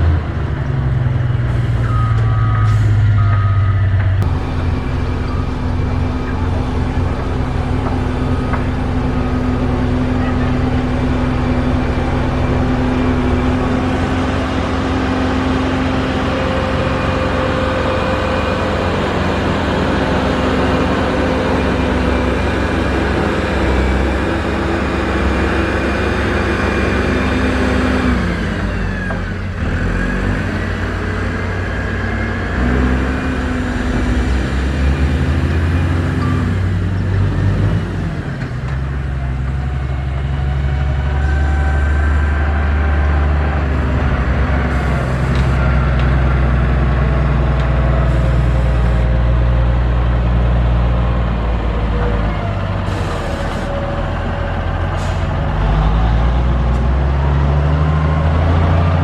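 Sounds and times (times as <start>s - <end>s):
heavy diesel engine under load: 0.0s - 59.0s.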